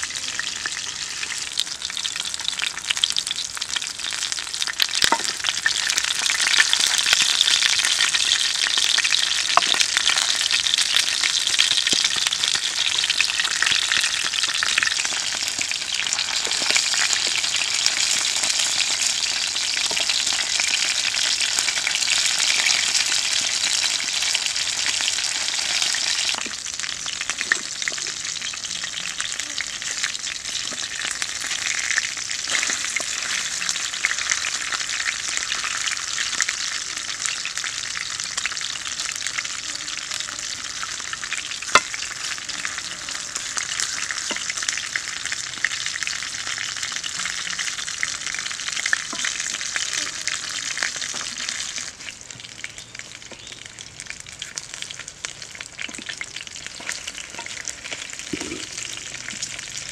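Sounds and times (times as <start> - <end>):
fish sizzling in oil: 0.0 - 59.9.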